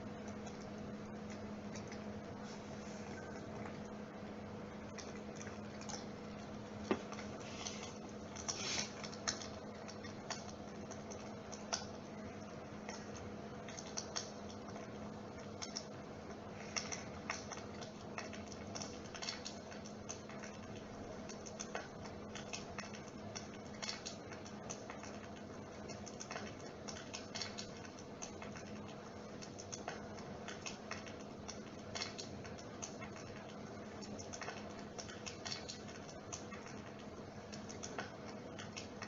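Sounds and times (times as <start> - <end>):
soft clicks and crackles: 0.1 - 39.0.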